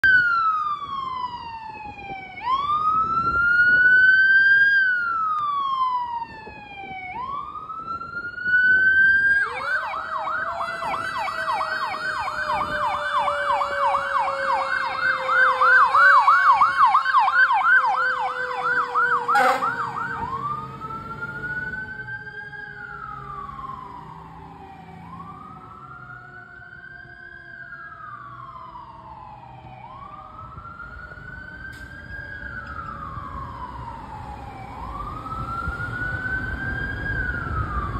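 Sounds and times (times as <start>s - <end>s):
electronic siren wail and yelp: 0.0s - 31.6s.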